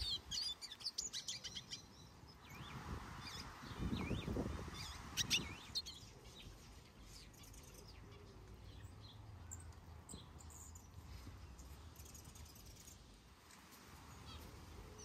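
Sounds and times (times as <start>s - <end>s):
finches chirping: 0.0s - 13.0s
low steady background noise: 0.0s - 15.0s.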